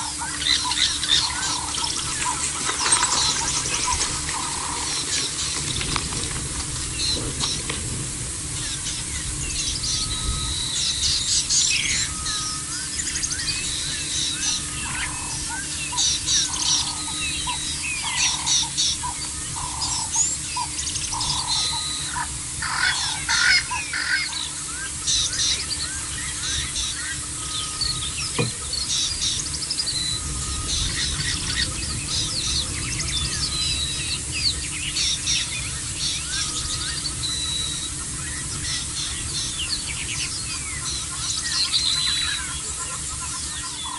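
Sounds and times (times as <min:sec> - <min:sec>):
small birds chirping and whistling: 0:00.0 - 0:06.1, 0:06.9 - 0:07.8, 0:08.5 - 0:43.9
steady low rumble: 0:00.0 - 0:43.9.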